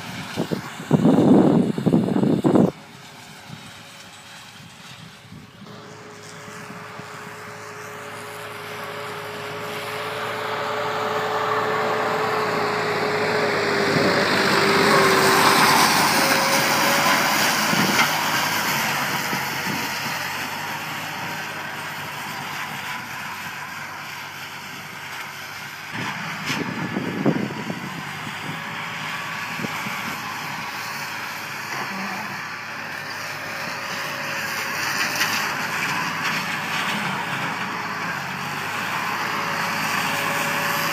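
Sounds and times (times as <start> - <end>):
tractor diesel engine under load: 0.0 - 40.9.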